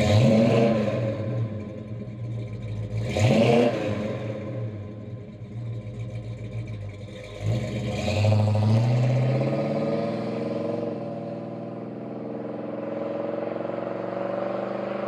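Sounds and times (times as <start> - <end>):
engine exhaust rumble: 0.0 - 15.0.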